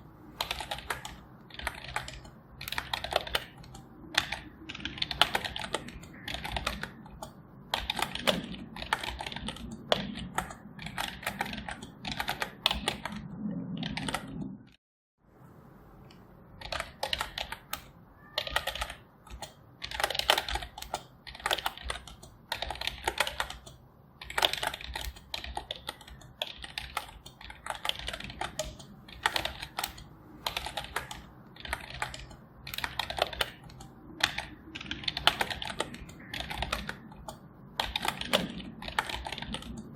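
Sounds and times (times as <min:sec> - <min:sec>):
typing on computer keyboard: 0:00.2 - 0:14.6, 0:16.6 - 0:39.9.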